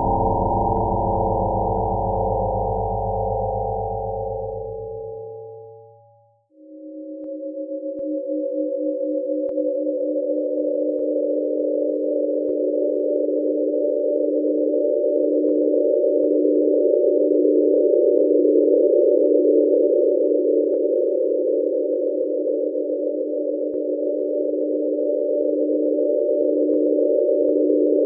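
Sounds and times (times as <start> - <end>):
electronic drone of pure tones: 0.0 - 28.0.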